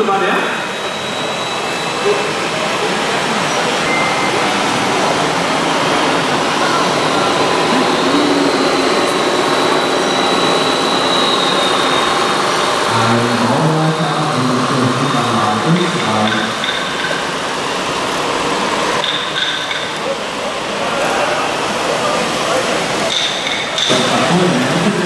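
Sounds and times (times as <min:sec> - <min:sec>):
loud hall noise: 0:00.0 - 0:25.0
deep engine drone: 0:01.7 - 0:25.0.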